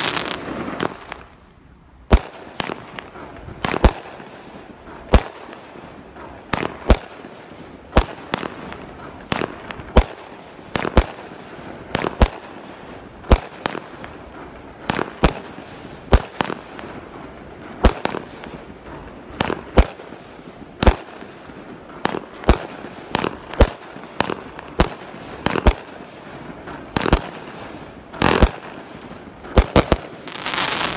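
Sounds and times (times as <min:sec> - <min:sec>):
fireworks bangs: 0:00.0 - 0:30.9.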